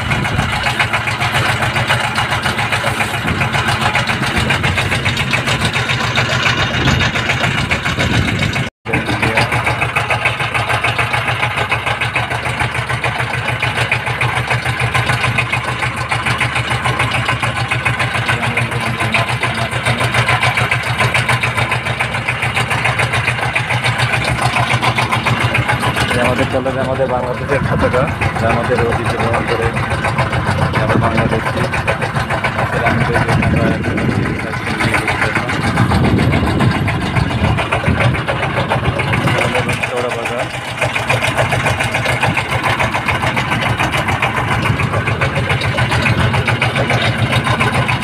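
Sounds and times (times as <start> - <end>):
diesel engine chugging: 0.0 - 48.0.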